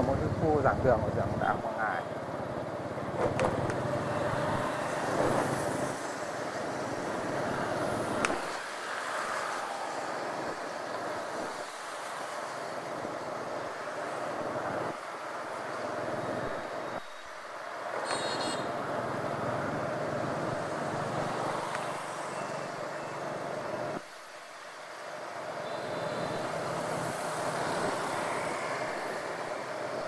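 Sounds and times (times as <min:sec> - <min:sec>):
passing motorbikes and cars: 0:00.0 - 0:17.0, 0:17.6 - 0:30.0
road and wind noise: 0:00.0 - 0:30.0.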